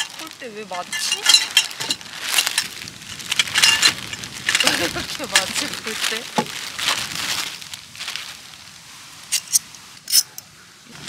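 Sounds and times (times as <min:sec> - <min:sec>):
tent pole sections clattering: 0:00.0 - 0:08.4, 0:09.2 - 0:10.4.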